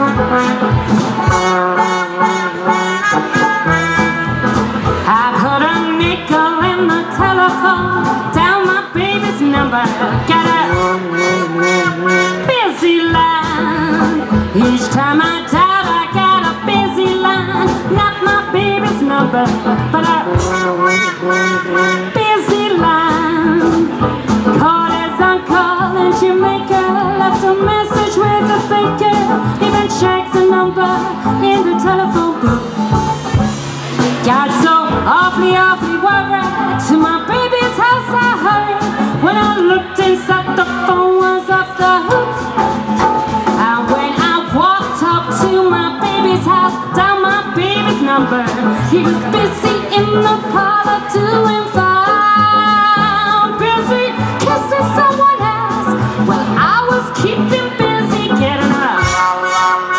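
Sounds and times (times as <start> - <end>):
woman singing: 0.0 - 33.2, 34.0 - 59.9
swing jazz band playing: 0.0 - 59.9.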